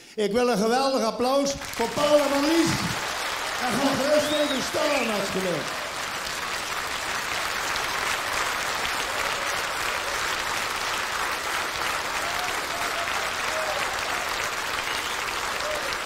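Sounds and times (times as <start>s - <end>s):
audience applauding: 1.4s - 16.0s.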